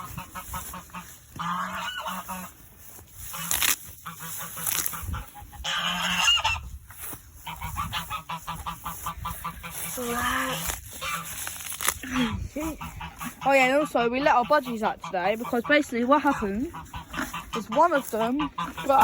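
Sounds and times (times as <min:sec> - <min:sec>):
geese honking: 0:00.0 - 0:06.7, 0:07.4 - 0:19.0.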